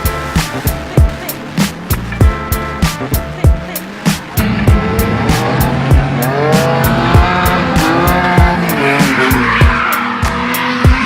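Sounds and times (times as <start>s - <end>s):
car engine revving: 0.0s - 11.0s
hip-hop music with deep kick drum: 0.0s - 11.0s
tyres squealing: 0.1s - 11.0s.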